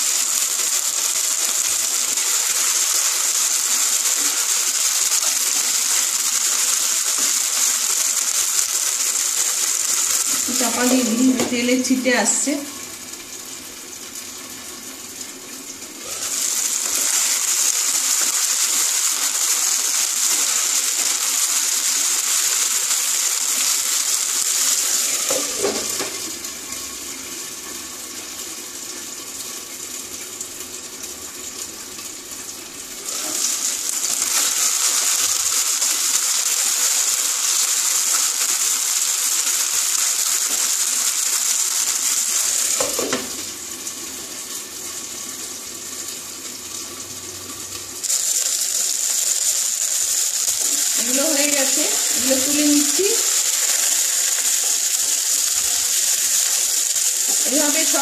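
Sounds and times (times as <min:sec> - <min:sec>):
oil sizzling and spattering: 0:00.0 - 0:58.0.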